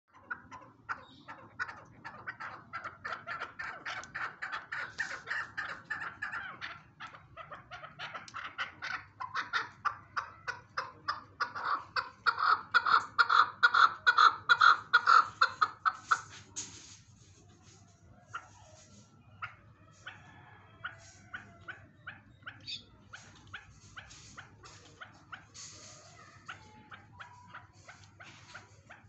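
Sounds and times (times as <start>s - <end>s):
partridge clucking calls: 0.0s - 29.0s.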